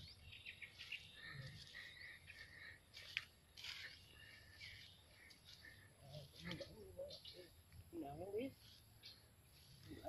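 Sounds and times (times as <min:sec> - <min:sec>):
faint outdoor ambience: 0:00.0 - 0:10.0.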